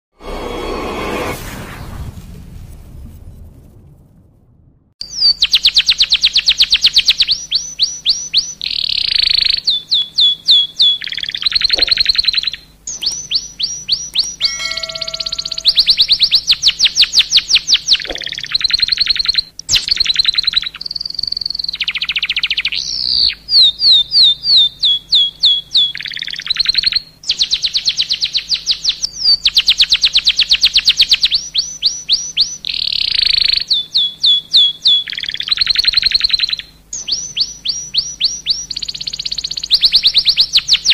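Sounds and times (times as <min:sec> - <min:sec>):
canary singing trills: 0:05.0 - 0:40.9.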